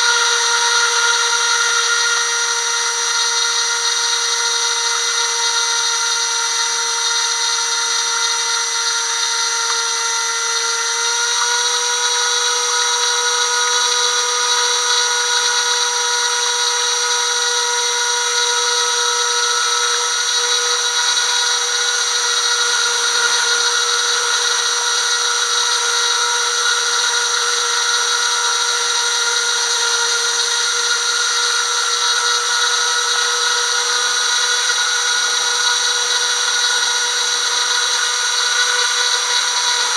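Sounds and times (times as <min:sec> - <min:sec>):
electric motors whining: 0:00.0 - 0:39.9.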